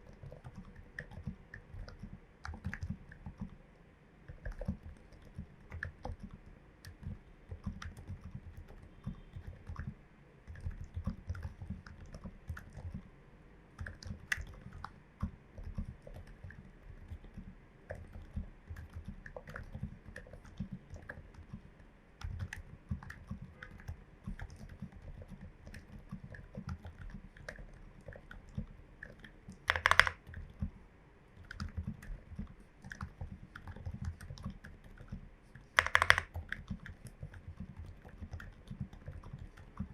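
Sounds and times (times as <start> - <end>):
mechanical keyboard typing: 0.0 - 3.6, 4.3 - 13.0, 13.8 - 30.7, 31.4 - 39.9.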